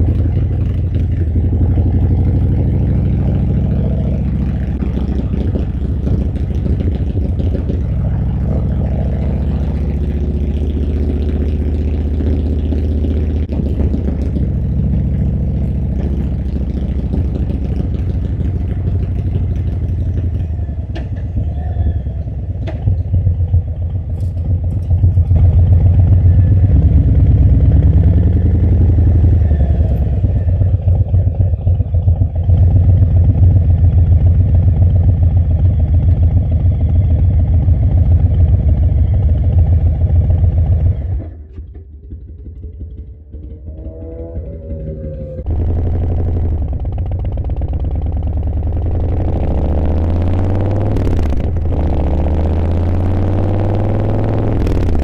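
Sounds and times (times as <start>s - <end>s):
motorcycle engine pulsing: 0.0s - 55.0s.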